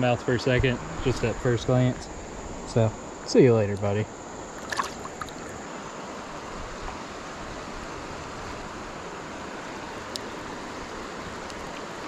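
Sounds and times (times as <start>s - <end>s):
river current hissing: 0.0s - 12.0s.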